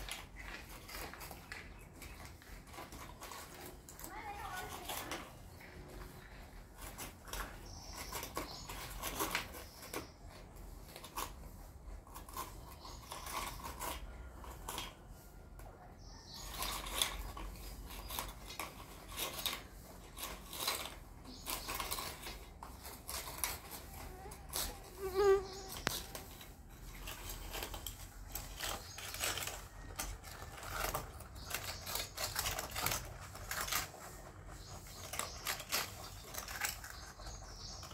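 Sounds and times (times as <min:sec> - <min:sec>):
rabbits crunching biscuits: 0:00.0 - 0:37.9.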